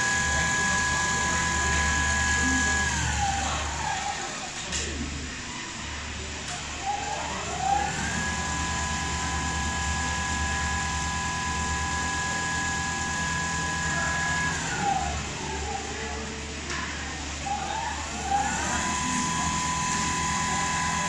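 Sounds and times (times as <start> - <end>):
sewing machine motor whine: 0.0 - 4.7, 5.4 - 21.0.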